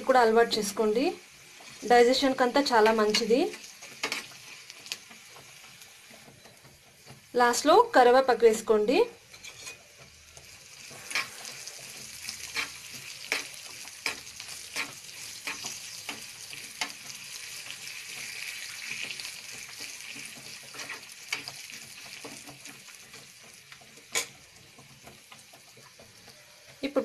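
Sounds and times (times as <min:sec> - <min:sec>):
spices sizzling in hot ghee: 0:00.0 - 0:27.0.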